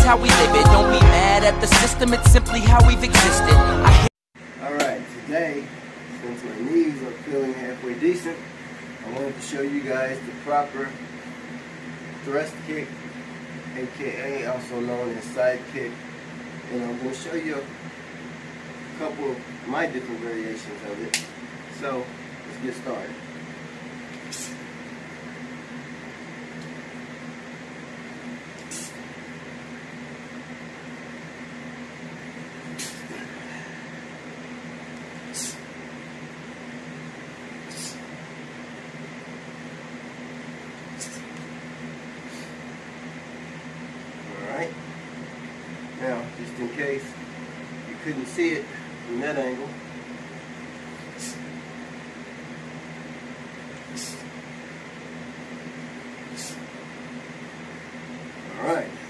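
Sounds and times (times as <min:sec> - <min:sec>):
electrical hum: 0:00.0 - 0:59.0.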